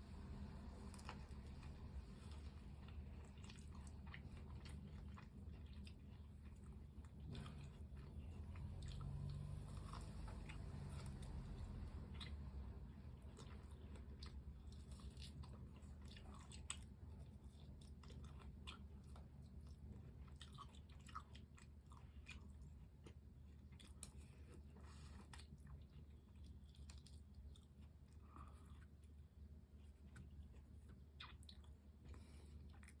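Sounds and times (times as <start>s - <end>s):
chewing crispy chicken: 0.1s - 33.0s.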